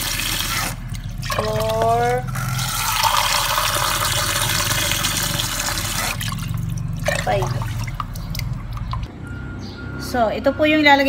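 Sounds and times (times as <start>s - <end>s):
water dripping: 0.0s - 9.1s
water pouring into pot: 0.0s - 9.1s.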